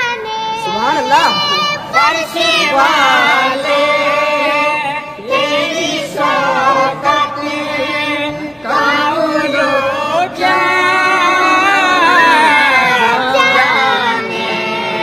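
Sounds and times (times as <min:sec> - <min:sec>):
boy singing devotional song: 0:00.0 - 0:15.0.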